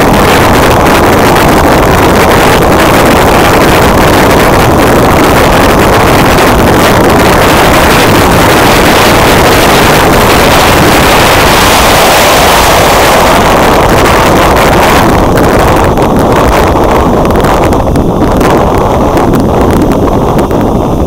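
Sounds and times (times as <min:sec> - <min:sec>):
electric motor and propeller drone: 0:00.0 - 0:21.0
wind noise on microphone: 0:00.0 - 0:21.0.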